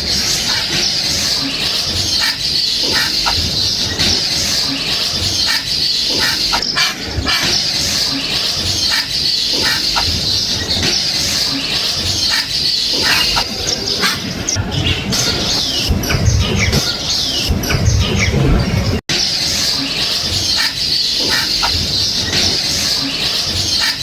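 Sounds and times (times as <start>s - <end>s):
sharp bird calls: 0.0s - 24.0s
small birds chirping: 0.0s - 24.0s.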